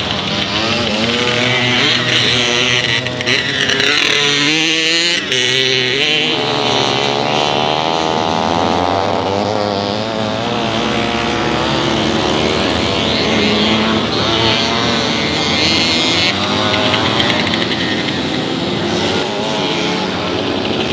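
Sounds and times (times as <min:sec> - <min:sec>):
motorcycle engines revving: 0:00.0 - 0:20.9.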